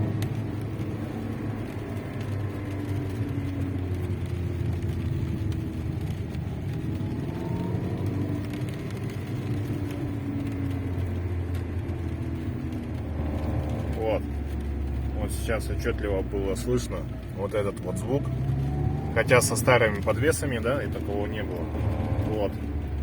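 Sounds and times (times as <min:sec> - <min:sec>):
car engine and exhaust running: 0:00.0 - 0:23.0
exhaust droning buzz: 0:00.0 - 0:23.0.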